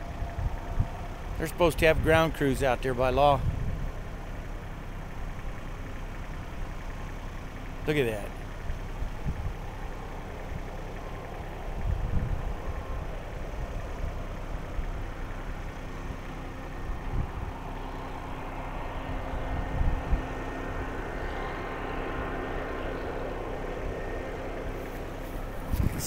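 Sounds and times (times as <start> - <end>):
wind buffeting microphone: 0.0 - 5.4, 8.7 - 26.0
engine idling: 0.0 - 26.0.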